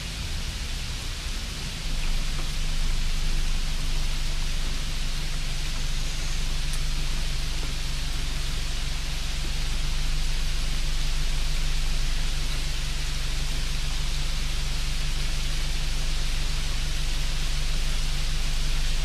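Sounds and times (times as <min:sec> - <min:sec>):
low hum: 0:00.0 - 0:19.0
steady hiss: 0:00.0 - 0:19.0.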